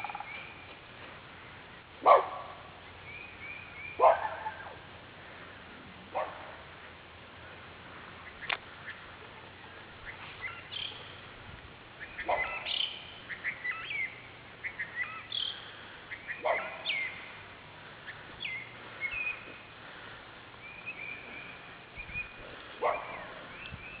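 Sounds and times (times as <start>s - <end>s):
wild birds chirping: 0.0s - 24.0s.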